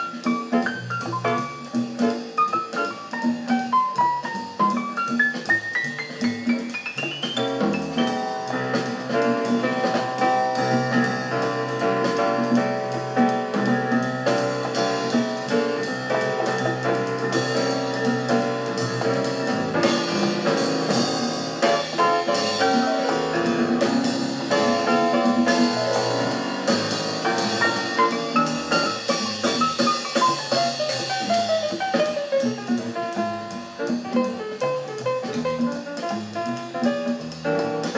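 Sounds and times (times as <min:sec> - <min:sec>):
instrumental music with drums: 0:00.0 - 0:37.9.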